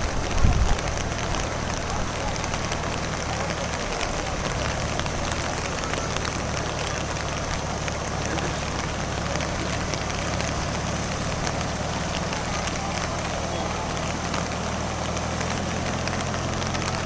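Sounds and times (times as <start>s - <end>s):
rushing floodwater splashing: 0.0s - 17.0s
tractor engine humming: 0.0s - 17.0s.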